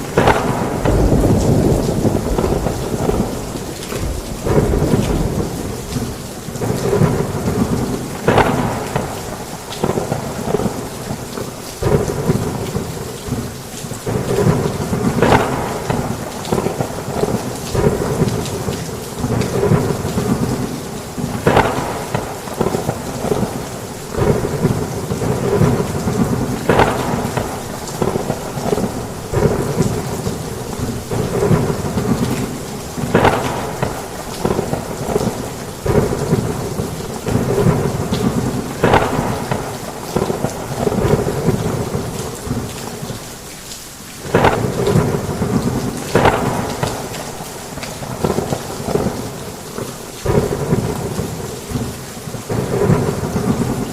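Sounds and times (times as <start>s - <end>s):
sharp thunder cracks: 0.0s - 11.2s, 11.8s - 13.5s, 14.1s - 42.7s, 44.2s - 51.9s
thunder rumbling: 0.0s - 43.1s, 44.2s - 53.9s
heavy rain pouring: 0.0s - 53.9s.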